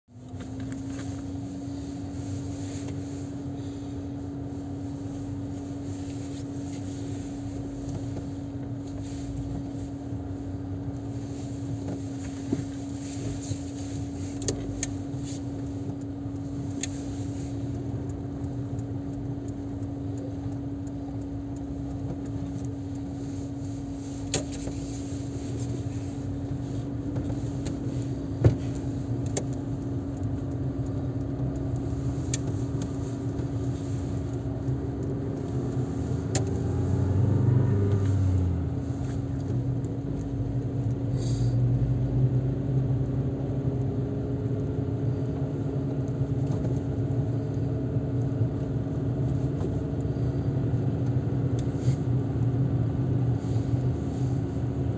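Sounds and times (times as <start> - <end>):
car cabin hum: 0.1 - 54.9
low road rumble: 0.1 - 54.9.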